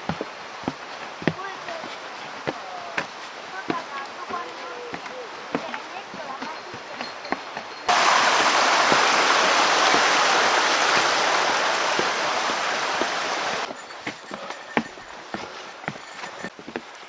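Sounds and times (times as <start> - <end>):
light irregular footsteps: 0.0 - 9.1, 11.0 - 17.0
water rushing in mountain stream: 0.0 - 16.8.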